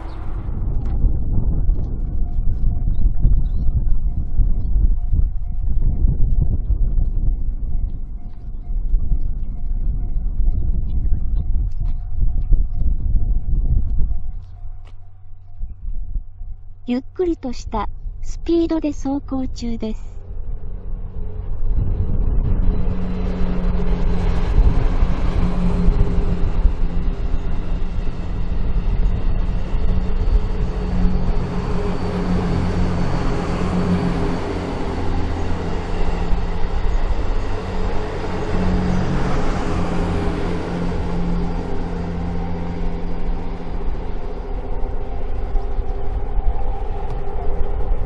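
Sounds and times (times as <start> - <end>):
train engine humming: 0.0 - 48.0.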